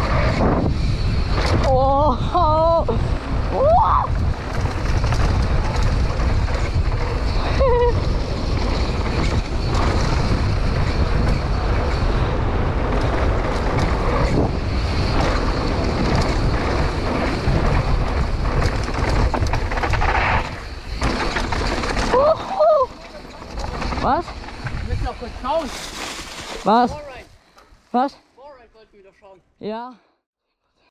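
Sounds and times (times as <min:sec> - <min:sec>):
wind rushing over microphone: 0:00.0 - 0:27.4
tyres rumbling on dirt trail: 0:00.0 - 0:27.9.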